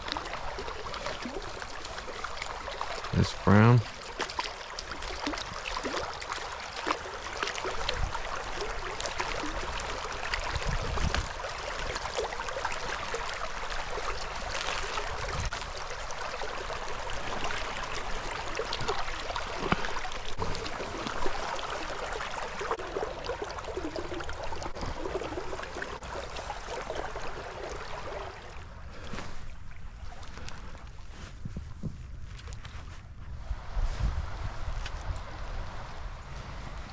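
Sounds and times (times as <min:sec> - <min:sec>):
creek water running over rocks: 0:00.0 - 0:32.9.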